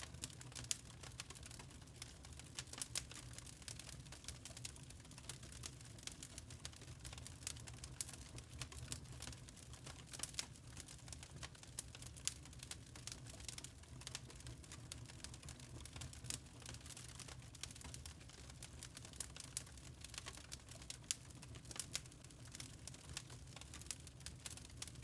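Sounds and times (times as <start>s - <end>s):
charcoal crackling: 0.1s - 25.0s.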